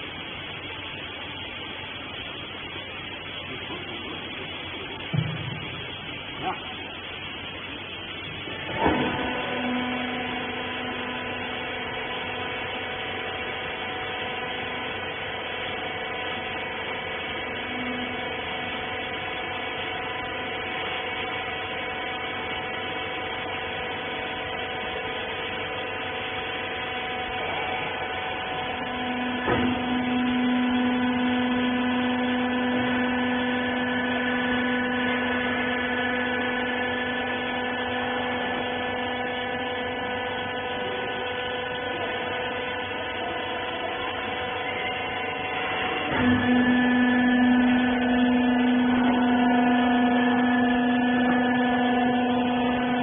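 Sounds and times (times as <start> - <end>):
motor and hydraulic pump humming: 0.0 - 53.0.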